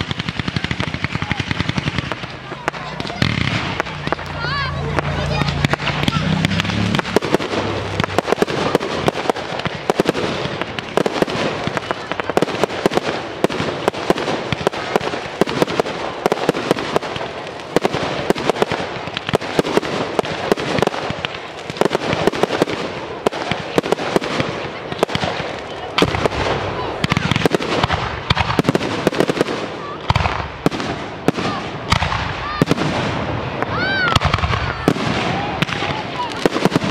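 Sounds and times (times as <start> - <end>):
fireworks bangs: 0.0 - 36.9
fireworks crackling: 0.0 - 36.9.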